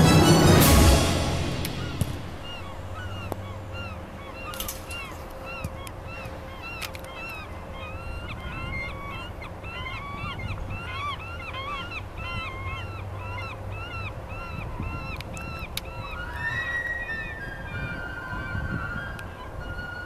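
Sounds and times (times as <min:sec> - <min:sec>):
flock of birds calling: 0:00.0 - 0:20.0
low wind rumble: 0:00.0 - 0:20.0.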